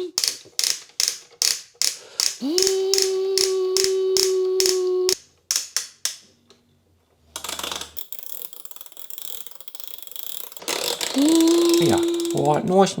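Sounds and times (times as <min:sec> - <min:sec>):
toy ratchet clicking: 0:00.0 - 0:06.3, 0:07.4 - 0:13.0.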